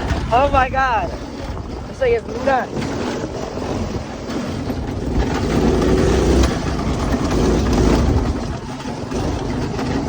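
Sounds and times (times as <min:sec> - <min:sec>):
go-kart engine running: 0:00.0 - 0:10.0
wind buffeting on microphone: 0:00.0 - 0:10.0.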